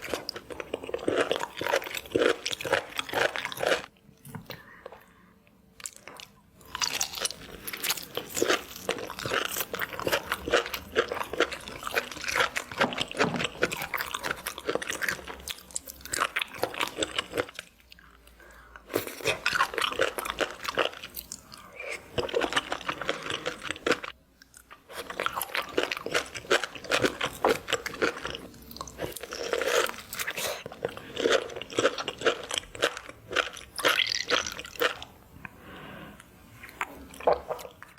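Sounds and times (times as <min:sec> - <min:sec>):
person chewing crunchy food: 0:00.0 - 0:05.0, 0:05.8 - 0:37.9.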